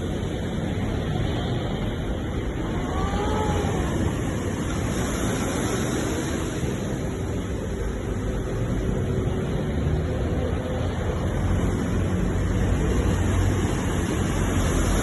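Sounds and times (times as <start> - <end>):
ocean waves and surf: 0.0 - 15.0.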